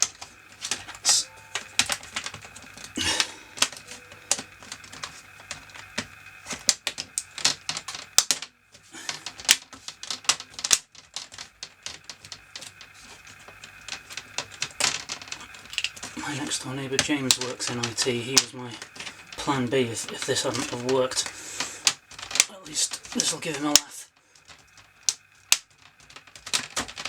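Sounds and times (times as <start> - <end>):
plastic clips snapping into place: 0.0 - 27.0.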